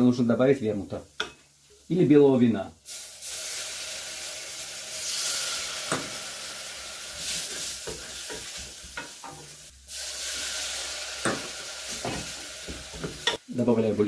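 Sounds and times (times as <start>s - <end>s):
vegetables sizzling in butter: 0.9s - 14.0s.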